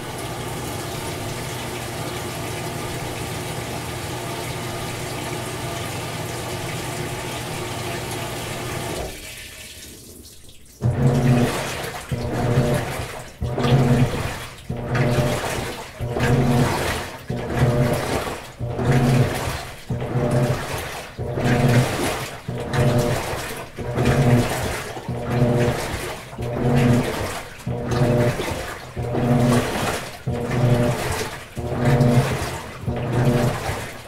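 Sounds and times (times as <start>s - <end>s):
washing machine motor churning: 0.0s - 10.0s, 10.7s - 34.0s
water rushing into washer tub: 0.0s - 34.0s.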